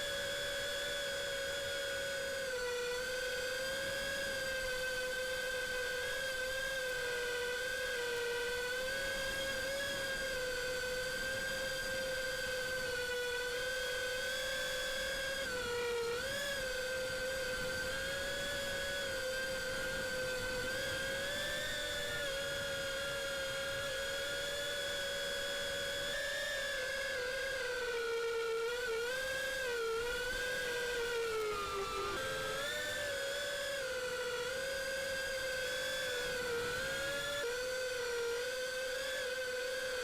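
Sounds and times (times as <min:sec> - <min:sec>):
drone motors and propellers whining: 0:00.0 - 0:40.0.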